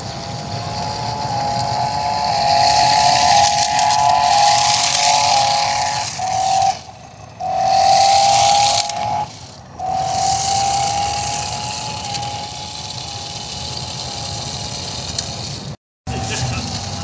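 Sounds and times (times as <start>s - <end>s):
hiss of wheels and gears: 0.0s - 17.0s
rc car motor whining: 0.0s - 17.0s.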